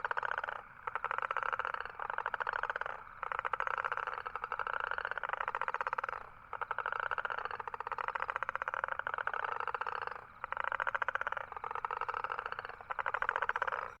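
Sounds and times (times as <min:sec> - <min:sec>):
toads trilling: 0:00.0 - 0:14.0.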